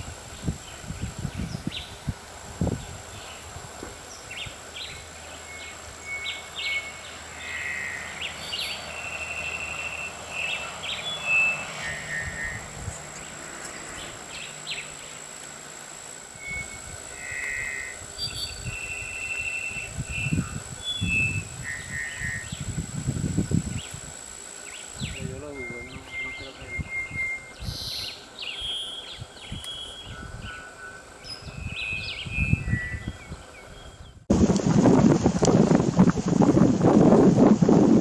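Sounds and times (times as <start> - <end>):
birds calling with whistles and trills: 0.0 - 34.3.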